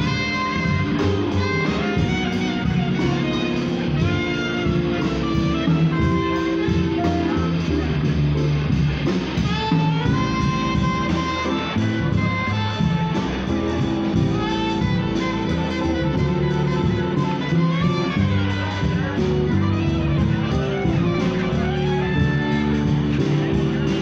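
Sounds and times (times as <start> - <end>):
drum kit: 0.0 - 24.0
electric keyboard: 0.0 - 24.0
plucked upright bass: 0.0 - 24.0
saxophone melody: 0.0 - 24.0.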